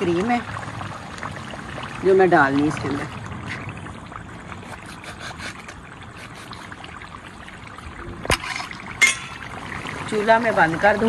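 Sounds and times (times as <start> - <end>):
curry simmering hiss: 0.0 - 11.0.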